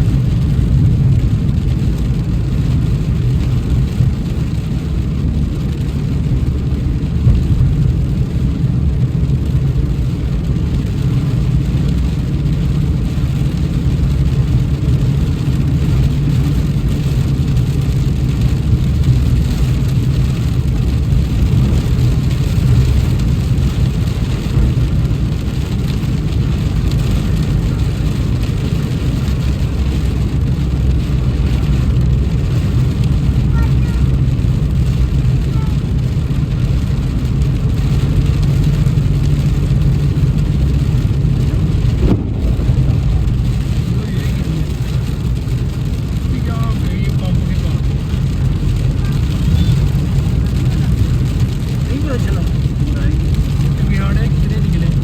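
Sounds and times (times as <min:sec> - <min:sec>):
car road and engine rumble: 0:00.0 - 0:55.0
rain hiss: 0:00.0 - 0:55.0.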